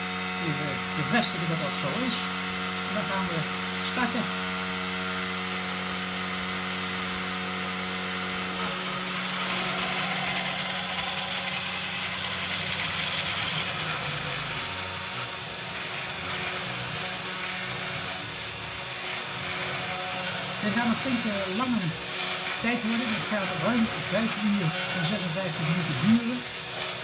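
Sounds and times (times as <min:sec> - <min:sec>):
router spindle motor running: 0:00.0 - 0:27.0
stepper motors whirring: 0:00.0 - 0:27.0.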